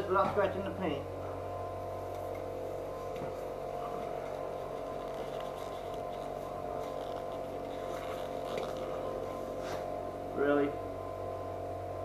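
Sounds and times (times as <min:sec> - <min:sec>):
steady hum with fixed tones: 0:00.0 - 0:12.0.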